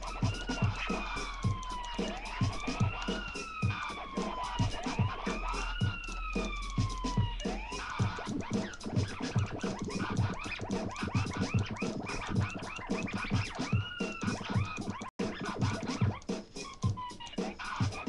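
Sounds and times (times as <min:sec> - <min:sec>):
steady low beat: 0:00.0 - 0:17.2
turntable scratching: 0:00.0 - 0:18.0.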